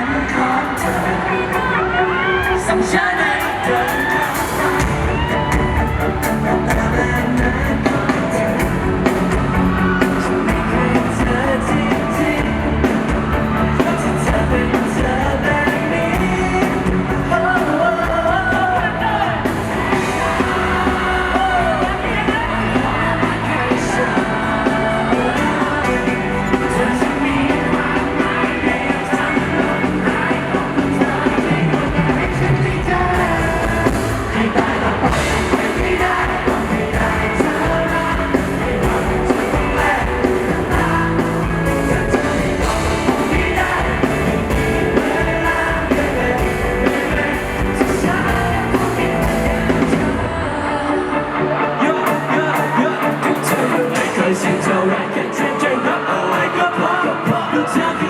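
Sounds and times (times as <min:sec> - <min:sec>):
live pop-rock band with singer: 0:00.0 - 0:58.0.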